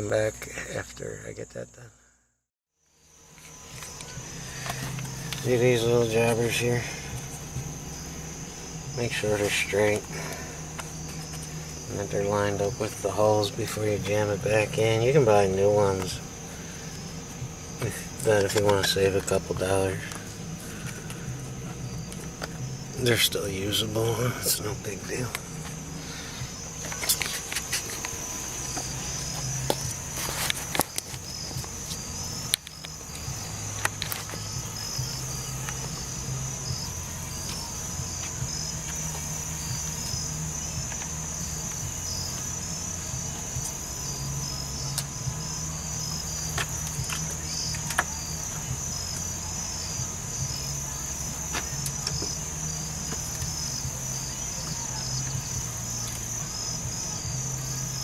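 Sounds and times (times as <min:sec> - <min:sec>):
crickets chirping: 0:00.0 - 0:58.0
low hum: 0:02.8 - 0:54.0.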